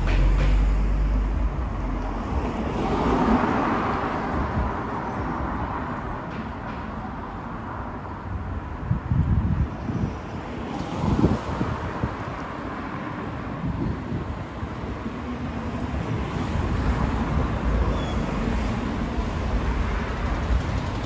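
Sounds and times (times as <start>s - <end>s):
cars passing along street: 0.0s - 21.0s.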